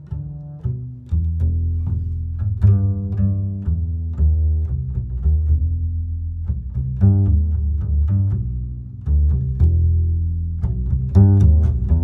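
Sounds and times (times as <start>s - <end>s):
plucked string bass line: 0.0s - 12.0s.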